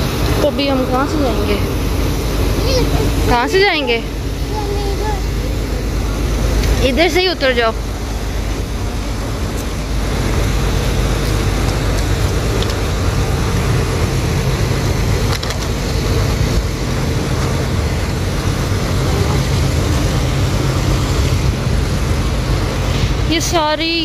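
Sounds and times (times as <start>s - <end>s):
cars passing on road: 0.0s - 24.0s
low traffic rumble: 0.0s - 24.0s.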